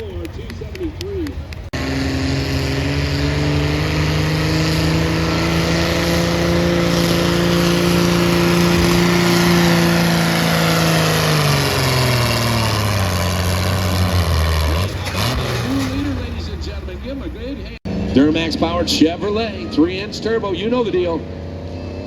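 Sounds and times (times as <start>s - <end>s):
engine running under load: 1.4s - 22.0s.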